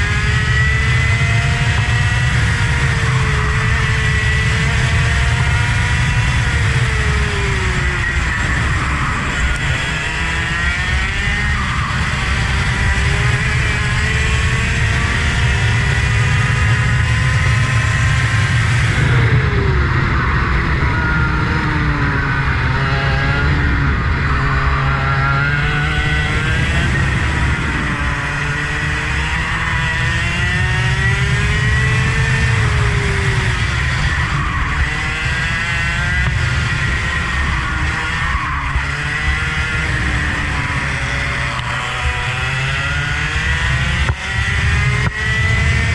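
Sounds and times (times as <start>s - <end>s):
racing car engine accelerating: 0.0s - 45.9s.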